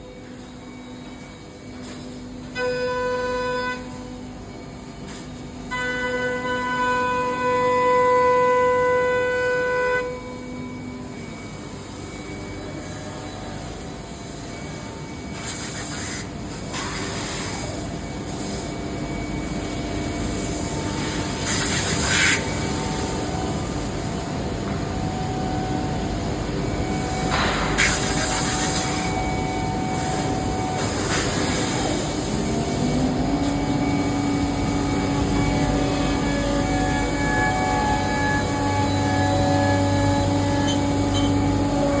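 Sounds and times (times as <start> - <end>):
cnc machine whine: 0.0 - 42.0.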